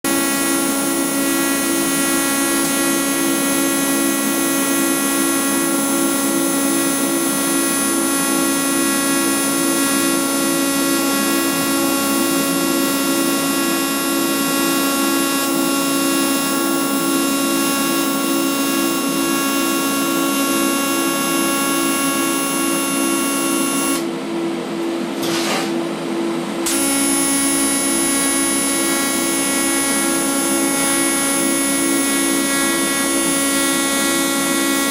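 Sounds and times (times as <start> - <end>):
welding arc buzzing: 0.0 - 24.1, 26.7 - 34.9.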